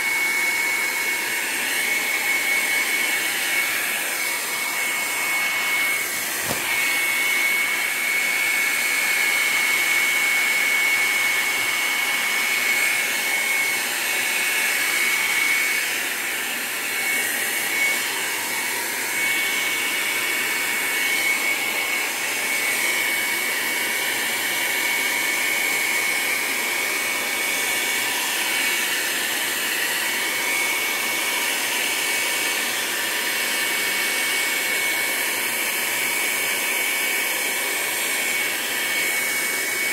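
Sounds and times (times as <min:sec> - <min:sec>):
hot-air dryer blowing: 0:00.0 - 0:39.9.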